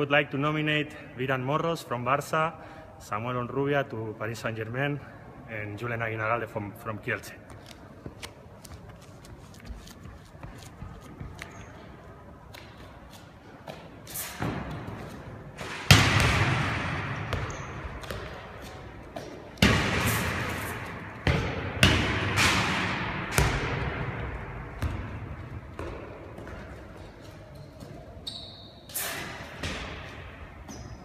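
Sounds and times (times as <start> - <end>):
handballs smacking in echoing hall: 4.3 - 31.0.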